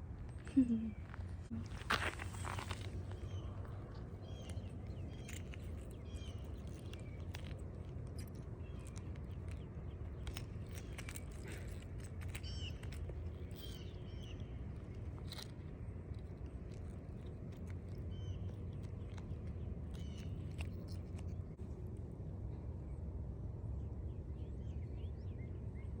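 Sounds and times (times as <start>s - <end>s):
steady low rumble: 0.0s - 26.0s
small birds chirping: 0.3s - 21.6s.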